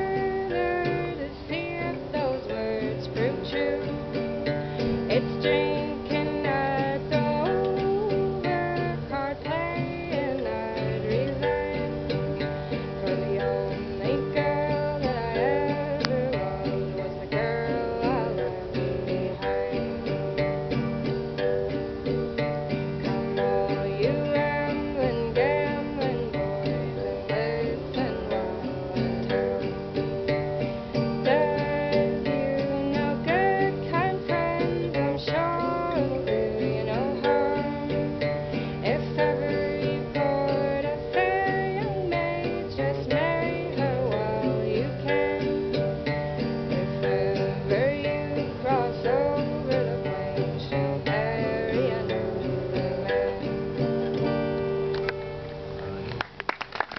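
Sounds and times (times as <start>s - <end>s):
person singing: 0.0s - 55.4s
acoustic guitar strumming: 0.0s - 56.4s.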